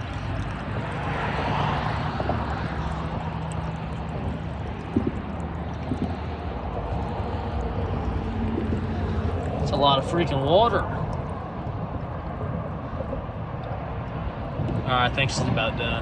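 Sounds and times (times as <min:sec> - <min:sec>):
water running and splashing: 0:00.0 - 0:13.4.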